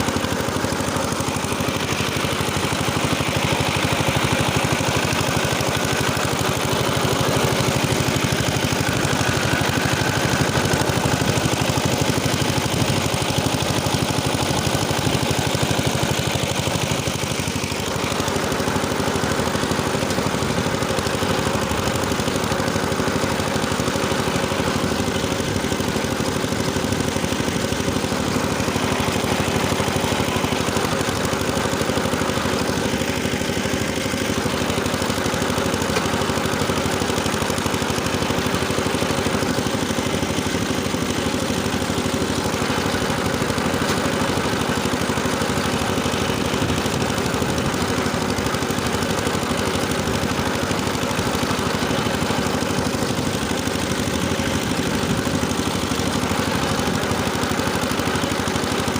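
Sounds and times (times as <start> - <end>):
rotary tiller engine running: 0.0 - 58.9.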